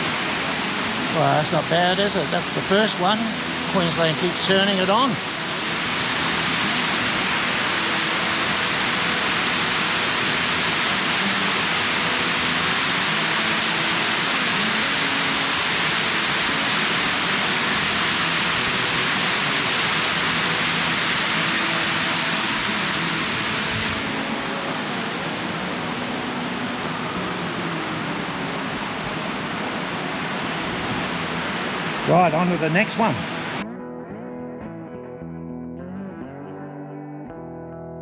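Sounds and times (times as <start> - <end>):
waterfall rushing: 0.0 - 33.6.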